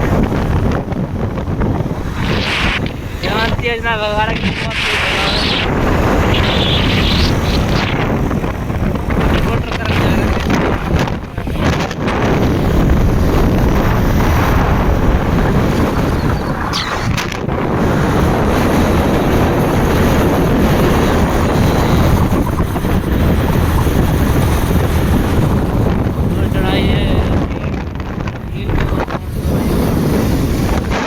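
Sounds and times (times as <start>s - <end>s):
road noise: 0.0s - 31.0s
wind buffeting microphone: 0.0s - 31.0s.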